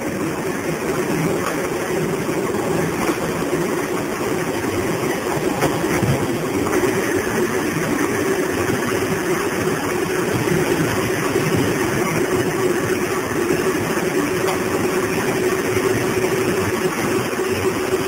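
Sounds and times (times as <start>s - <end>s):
conveyor machinery rumbling: 0.0s - 18.0s.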